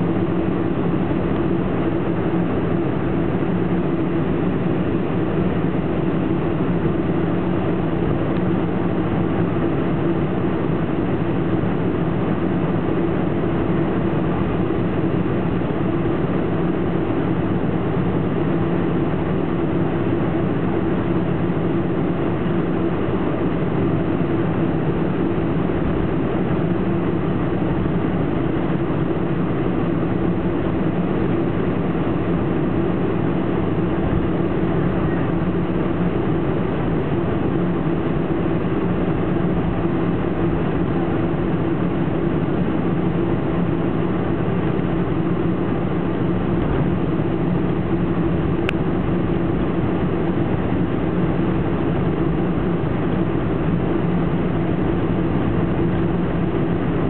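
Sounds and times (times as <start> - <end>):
aircraft cabin engine hum: 0.0 - 57.0.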